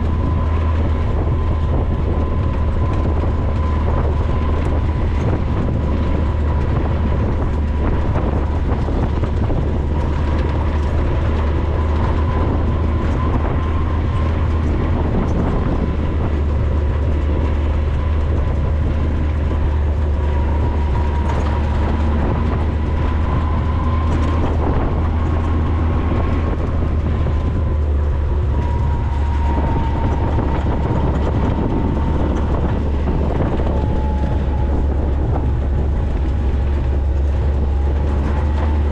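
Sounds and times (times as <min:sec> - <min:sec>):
vehicle driving rumble: 0:00.0 - 0:38.9.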